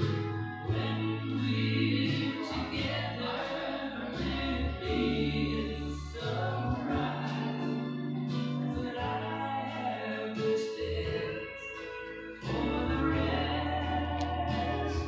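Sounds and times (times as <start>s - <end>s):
bass line: 0.0s - 15.0s
singing voices: 0.0s - 15.0s.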